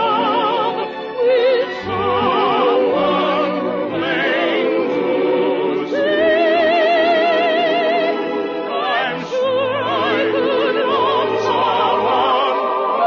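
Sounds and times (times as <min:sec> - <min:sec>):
operatic singing with vibrato: 0:00.0 - 0:13.0
orchestra: 0:00.0 - 0:13.0.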